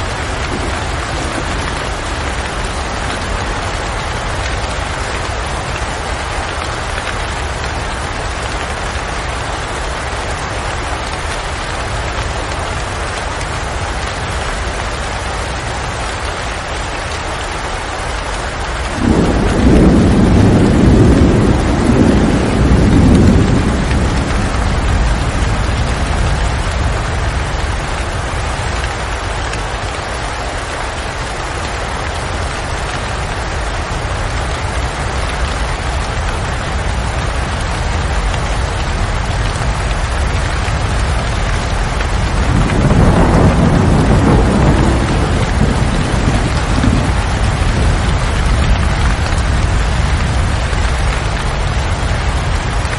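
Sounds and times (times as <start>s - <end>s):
thunder rumbling: 0.0s - 11.2s, 18.6s - 52.9s
steady rain: 0.0s - 52.9s.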